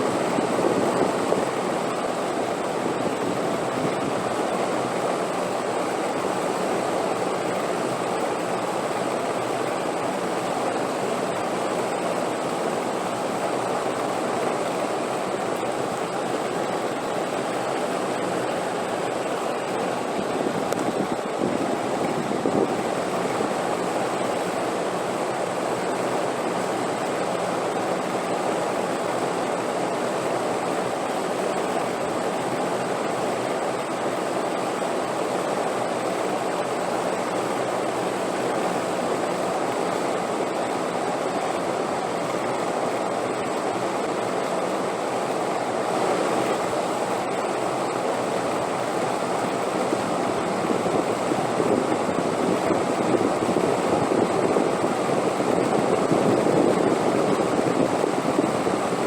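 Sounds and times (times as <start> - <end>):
steady rushing wind: 0.0 - 59.0.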